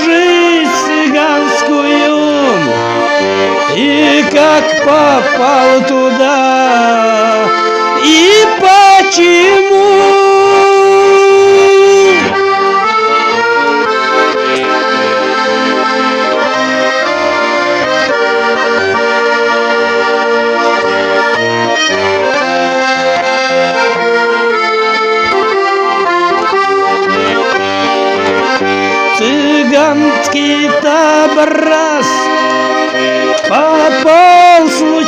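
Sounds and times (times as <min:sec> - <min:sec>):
accordion playing: 0:00.0 - 0:35.0.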